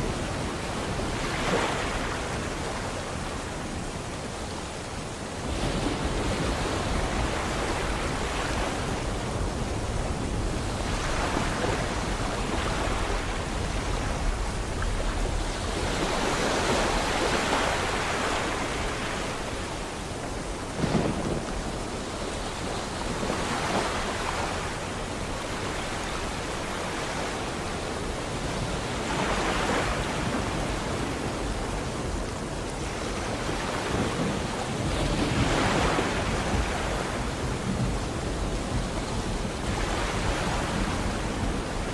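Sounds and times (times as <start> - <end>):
rain hiss: 0.0 - 41.9
sea waves breaking: 0.0 - 41.9.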